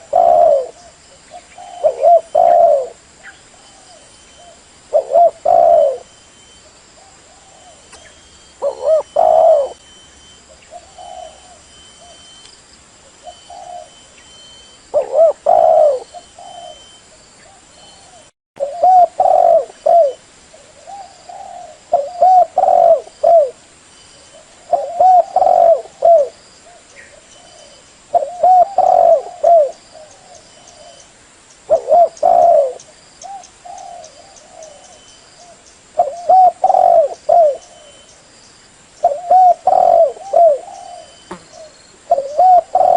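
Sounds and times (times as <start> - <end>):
dove cooing: 0.0 - 9.8, 10.5 - 12.4, 13.2 - 23.6, 24.2 - 31.1, 31.7 - 38.1, 39.0 - 42.9.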